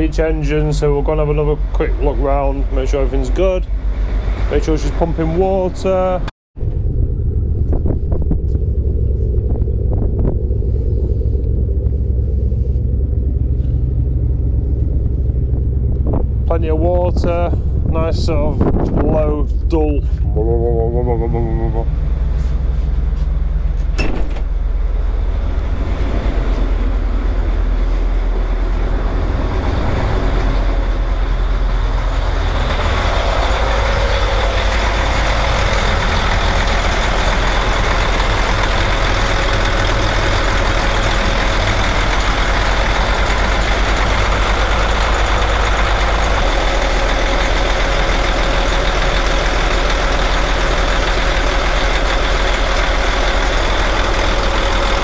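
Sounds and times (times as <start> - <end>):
marine diesel engines idling: 0.0 - 55.0.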